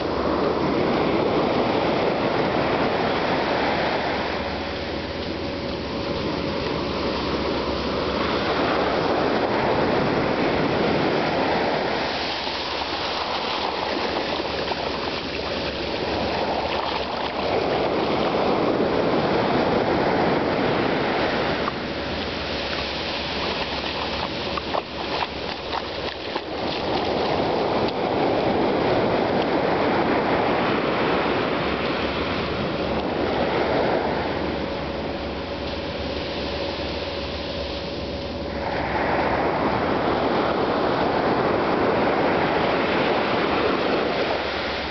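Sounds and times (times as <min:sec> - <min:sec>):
ocean surf washing up beach: 0:00.0 - 0:44.9.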